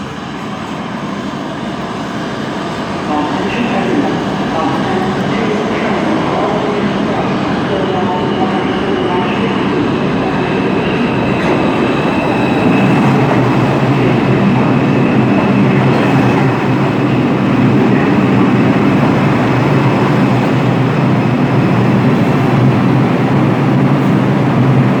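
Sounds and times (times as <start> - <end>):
subway train wheels rumbling: 0.0 - 25.0.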